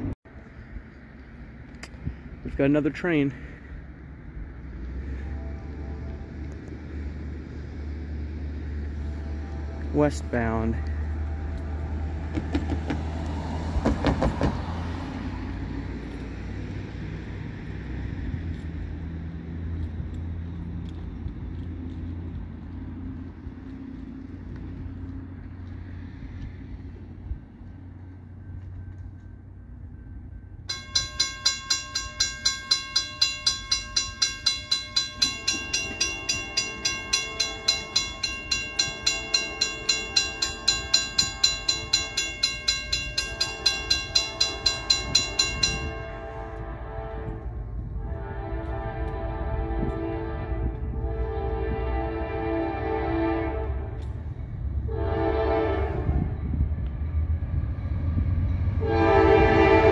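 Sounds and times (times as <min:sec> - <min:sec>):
freight train rumbling by: 0:00.0 - 0:59.9.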